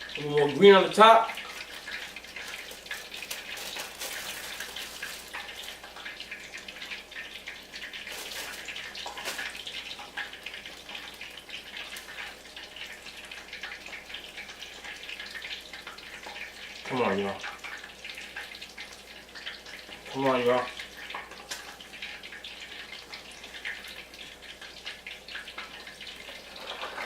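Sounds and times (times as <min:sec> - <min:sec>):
oil sizzling in a frying pan: 0:00.0 - 0:27.0.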